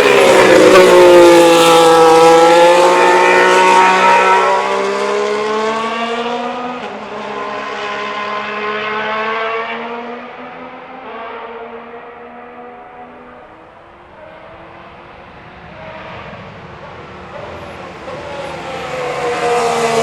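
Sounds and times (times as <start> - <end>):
racing car engine passing: 0.0 - 20.0.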